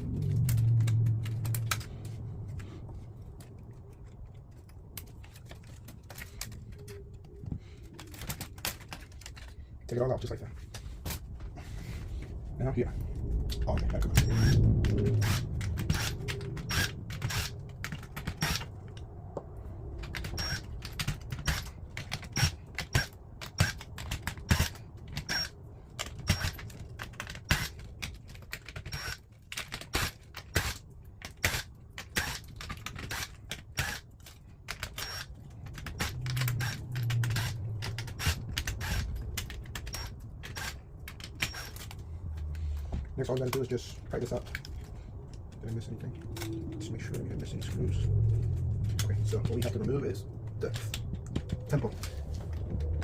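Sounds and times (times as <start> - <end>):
plastic parts and screws clicking: 0.0 - 11.5, 13.2 - 53.0.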